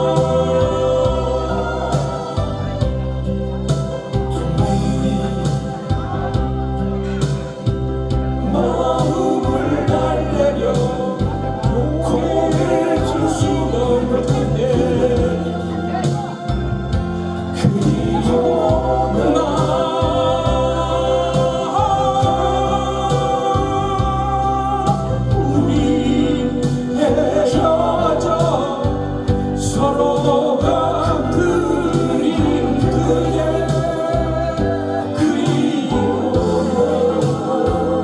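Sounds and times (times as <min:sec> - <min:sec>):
man singing into microphone: 0:00.0 - 0:03.1, 0:04.3 - 0:06.3, 0:08.4 - 0:16.6, 0:17.4 - 0:38.0
instrumental accompaniment: 0:00.0 - 0:38.0.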